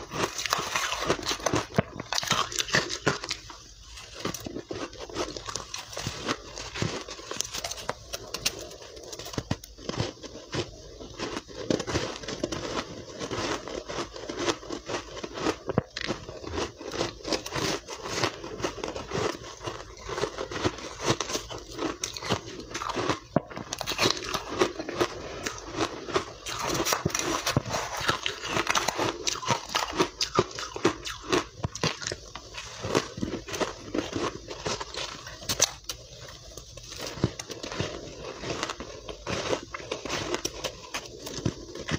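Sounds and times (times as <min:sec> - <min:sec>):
crunching ice while chewing: 0:00.0 - 0:41.9.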